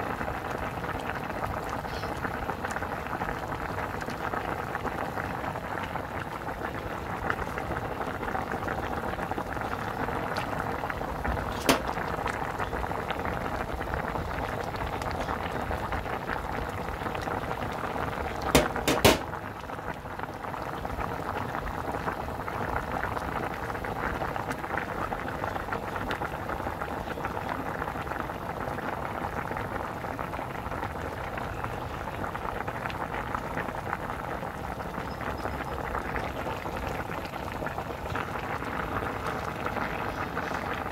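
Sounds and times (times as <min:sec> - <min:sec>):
broth boiling and bubbling: 0:00.0 - 0:40.9.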